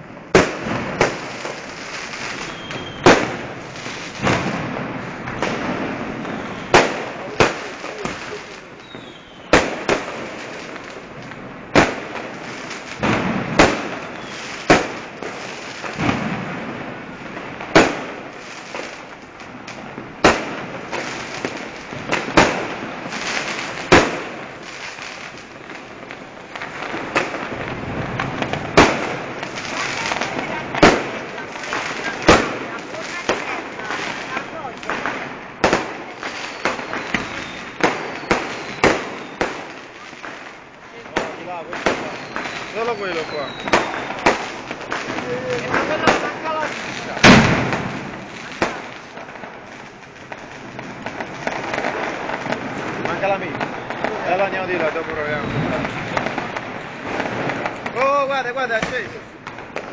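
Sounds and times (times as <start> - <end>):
firecrackers crackling: 0.0 - 59.9
firework bangs: 0.0 - 59.9.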